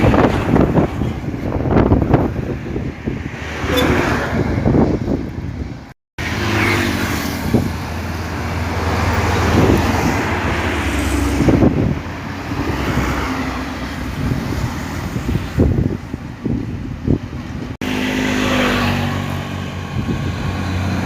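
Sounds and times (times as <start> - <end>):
road traffic noise: 0.0 - 21.0
truck diesel engines running: 0.0 - 21.0.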